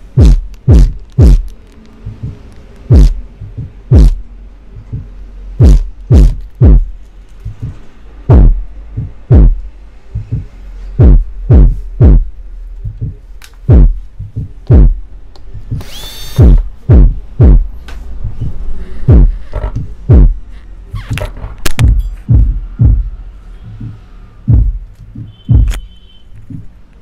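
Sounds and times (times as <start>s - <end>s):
deep kick-drum thumps: 0.0s - 1.5s, 2.1s - 20.4s, 21.8s - 25.8s, 26.5s - 26.7s
steady low hum: 0.0s - 26.9s.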